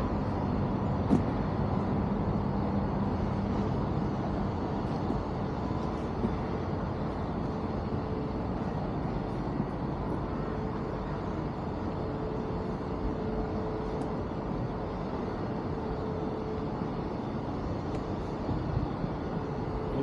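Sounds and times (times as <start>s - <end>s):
city background rumble: 0.0s - 20.0s
mid-pitched hum: 0.0s - 20.0s.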